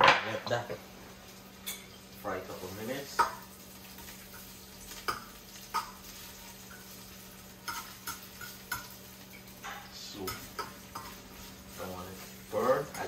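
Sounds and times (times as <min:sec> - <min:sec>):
onions sizzling in oil: 0:00.7 - 0:13.0.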